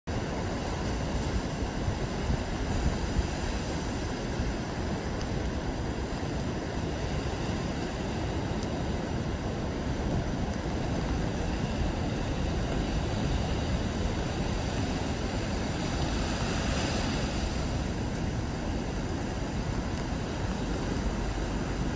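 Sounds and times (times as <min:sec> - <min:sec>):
surf breaking on beach: 0:00.1 - 0:21.9
wind rumbling on microphone: 0:00.1 - 0:21.9.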